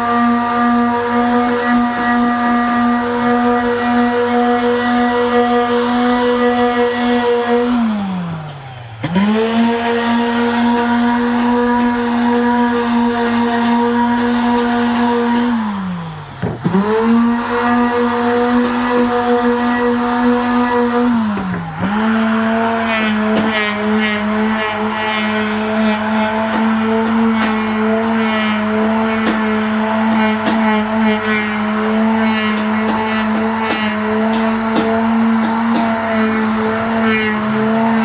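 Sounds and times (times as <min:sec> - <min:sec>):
wood cutting chattering scrape: 0:00.0 - 0:38.0
woodworking machine motor humming: 0:00.0 - 0:38.0.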